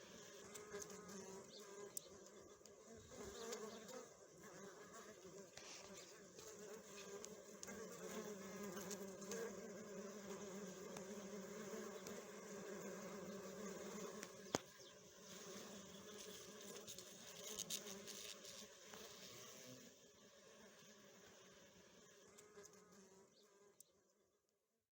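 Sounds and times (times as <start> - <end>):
honeybees buzzing: 0.0 - 23.4.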